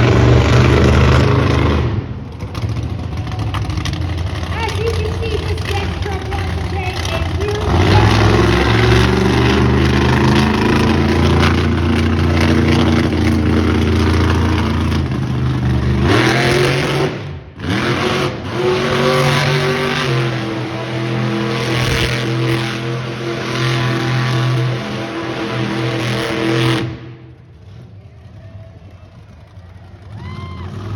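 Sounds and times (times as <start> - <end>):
monster truck engine revving: 0.0 - 30.9.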